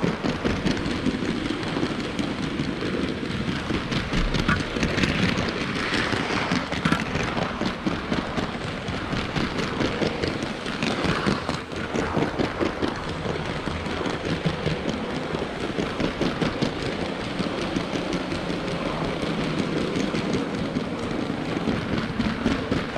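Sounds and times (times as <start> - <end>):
toy train rattling on plastic track: 0.0 - 22.9.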